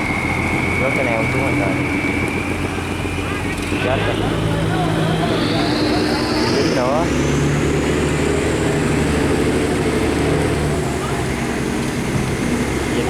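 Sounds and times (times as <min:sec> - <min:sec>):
boat engines droning: 0:00.0 - 0:13.0.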